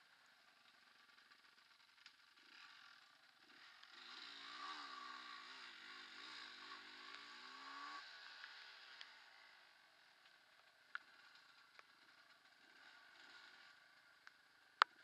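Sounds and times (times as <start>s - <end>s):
faint motorcycle engine revving: 0.0s - 15.0s.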